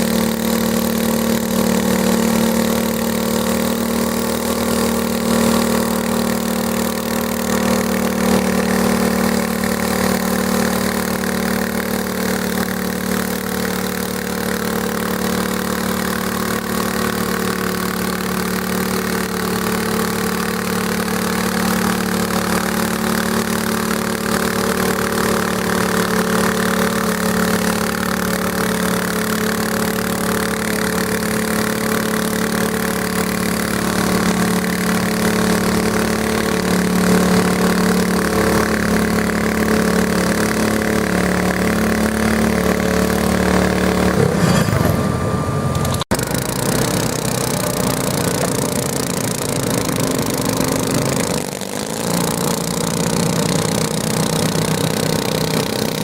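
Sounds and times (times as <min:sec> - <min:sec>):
garden tractor engine running: 0:00.0 - 0:56.0.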